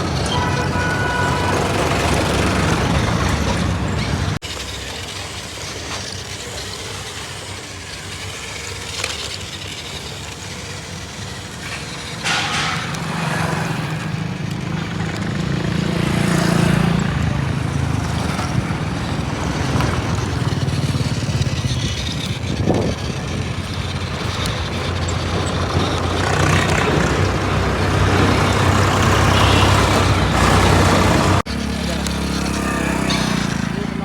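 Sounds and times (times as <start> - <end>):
toy tractor motor humming: 0.0 - 34.0.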